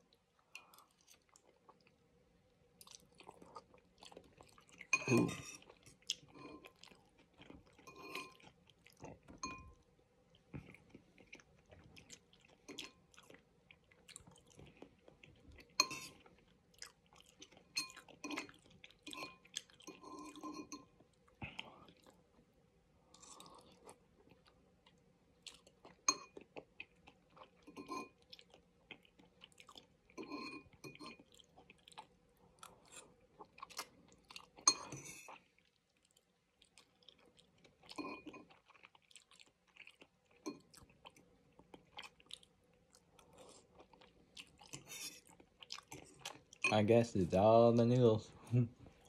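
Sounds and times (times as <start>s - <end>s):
wet chewing and slurping: 2.8s - 22.3s, 23.1s - 46.7s.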